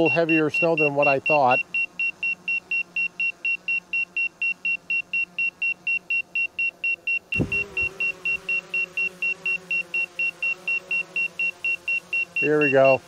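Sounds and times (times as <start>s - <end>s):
drone propellers humming: 0.0s - 12.8s
rapid high warning beeps: 0.0s - 13.0s.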